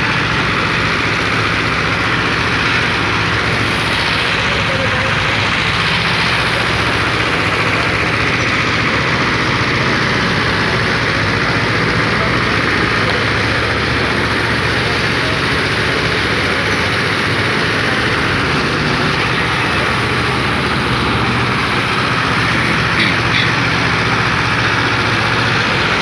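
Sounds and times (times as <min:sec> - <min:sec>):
heavy engine droning: 0:00.0 - 0:26.0.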